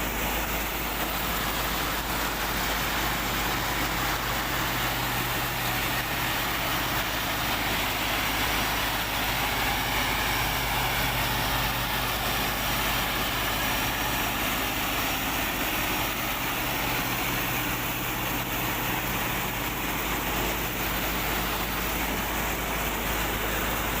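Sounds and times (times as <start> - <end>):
farm machinery engine running: 0.0 - 24.0.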